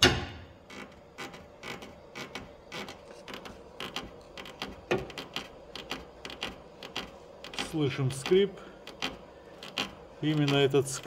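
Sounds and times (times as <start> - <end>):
car suspension creaking: 0.0 - 11.0.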